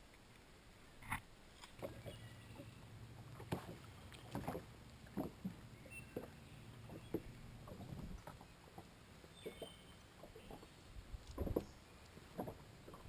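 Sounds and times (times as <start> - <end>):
water splashing against boat hull: 1.0 - 13.0.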